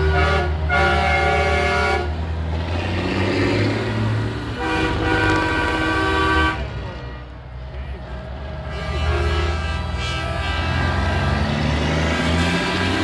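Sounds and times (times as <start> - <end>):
truck air horns blowing: 0.0 - 2.2, 4.5 - 13.0
diesel engines rumbling: 0.0 - 13.0.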